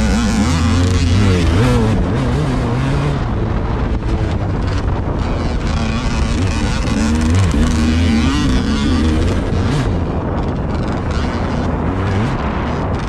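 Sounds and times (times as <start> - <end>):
vehicle engine running: 0.0 - 13.0
wind buffeting microphone: 0.0 - 13.0.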